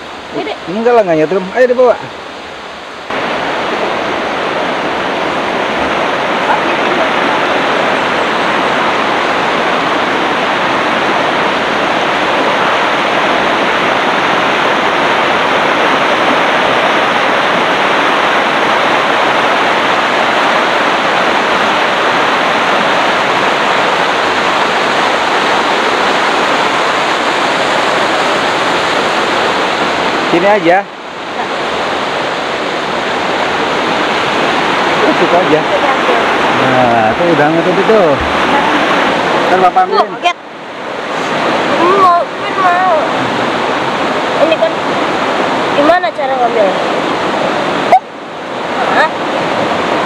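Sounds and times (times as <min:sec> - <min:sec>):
water rushing over rocks: 0:00.0 - 0:50.0.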